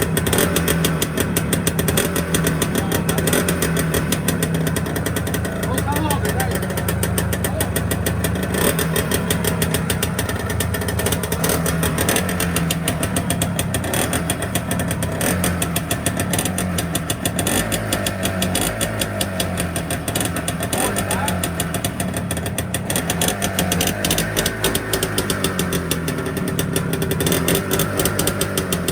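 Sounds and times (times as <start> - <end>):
two-stroke engine running: 0.0 - 28.9.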